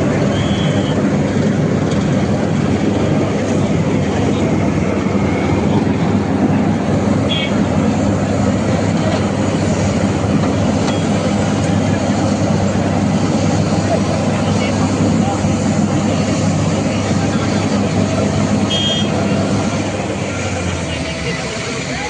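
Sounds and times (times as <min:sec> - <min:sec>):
construction machinery engine drone: 0:00.0 - 0:22.0.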